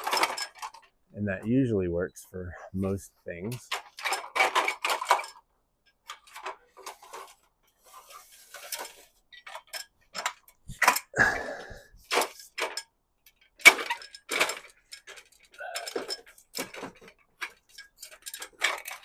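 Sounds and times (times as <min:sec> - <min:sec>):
hard objects clicking and knocking: 0:00.0 - 0:01.0, 0:03.5 - 0:07.7, 0:08.5 - 0:19.0.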